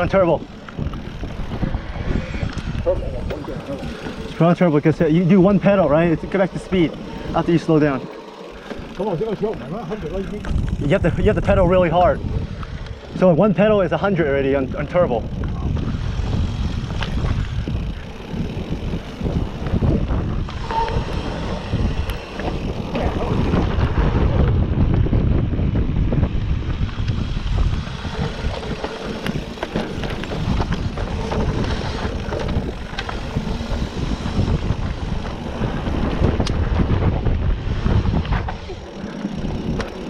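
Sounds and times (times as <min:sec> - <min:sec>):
wind buffeting microphone: 0:00.0 - 0:40.0
tyres rolling on dirt: 0:02.5 - 0:24.7, 0:26.3 - 0:40.0
bike knocks and rattles: 0:02.6 - 0:40.0.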